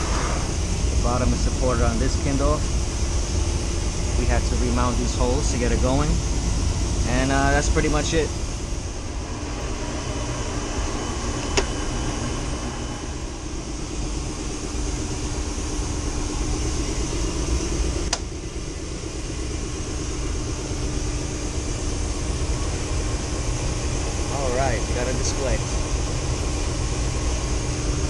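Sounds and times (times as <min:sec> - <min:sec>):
hvac machinery droning: 0:00.0 - 0:28.0.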